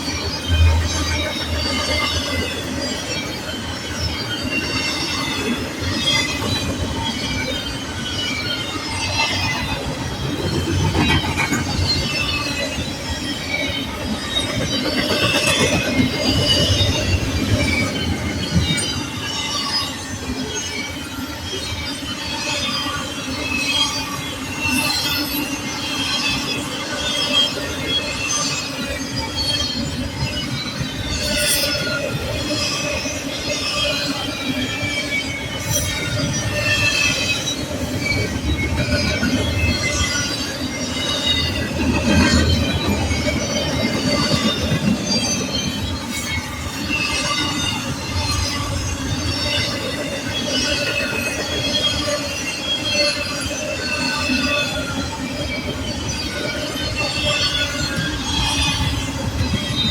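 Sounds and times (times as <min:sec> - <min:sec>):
freight train cars rumbling: 0:00.0 - 0:59.9
steel wheels squealing: 0:00.0 - 0:59.9.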